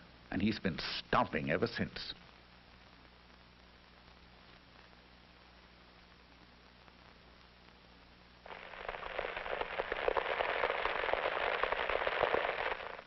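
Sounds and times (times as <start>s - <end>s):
film soundtrack hiss and hum: 0.0s - 13.0s
dense crackling with rapid clicks: 1.7s - 13.0s.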